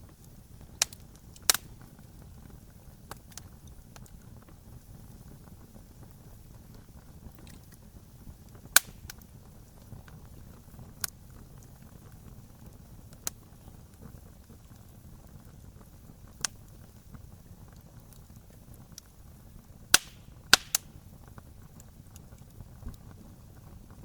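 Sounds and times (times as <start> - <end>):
campfire flames rushing: 0.0 - 24.0
loud pops from fire: 0.0 - 24.0
wood crackling: 0.0 - 24.0.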